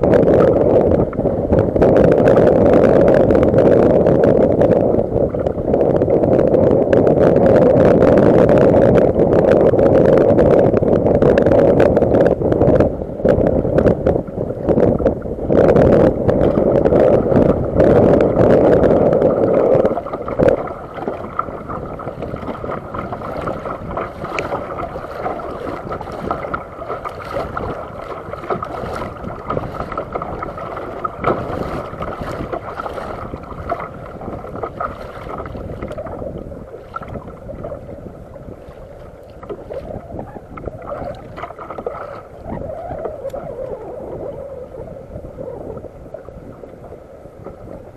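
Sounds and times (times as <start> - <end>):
water splashing against kayak hull: 0.0 - 47.9
wind buffeting microphone: 0.0 - 47.9.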